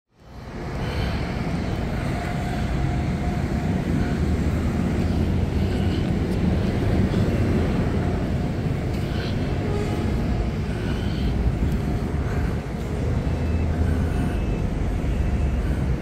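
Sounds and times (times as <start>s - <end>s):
rumble of buses and cars: 0.1s - 16.0s.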